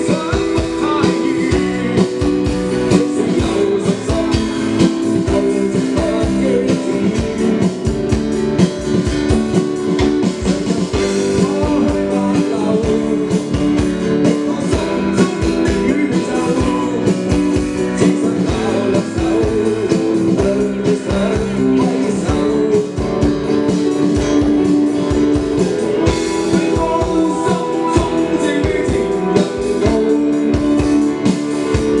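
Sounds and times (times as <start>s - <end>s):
live rock band playing: 0.0s - 32.0s
person singing lead vocals: 0.0s - 32.0s
strummed acoustic guitar: 0.0s - 32.0s.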